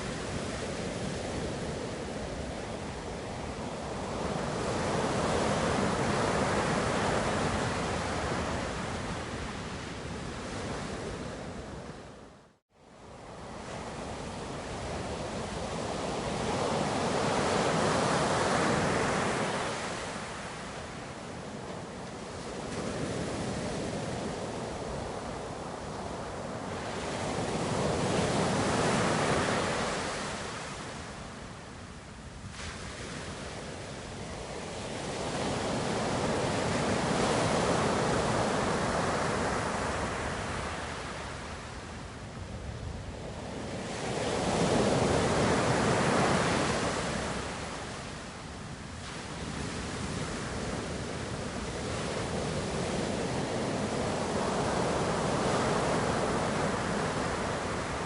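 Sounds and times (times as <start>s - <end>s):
ocean surf washing ashore: 0.0s - 12.2s, 13.0s - 58.0s.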